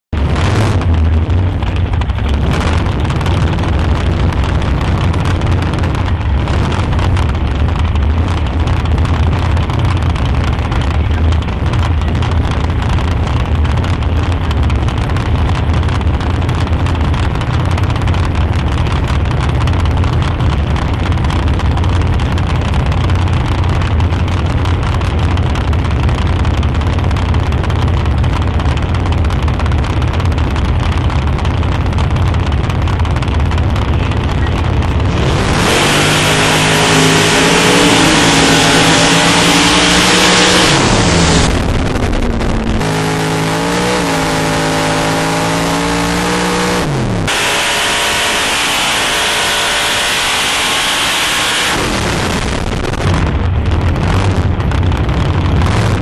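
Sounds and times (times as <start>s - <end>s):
loud deep engine exhaust: 0.1s - 56.0s.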